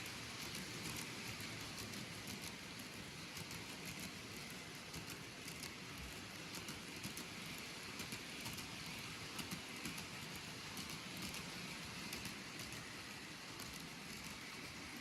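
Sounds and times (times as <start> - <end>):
light irregular clicks: 0.0 - 14.7
model train rolling on track: 0.0 - 15.0.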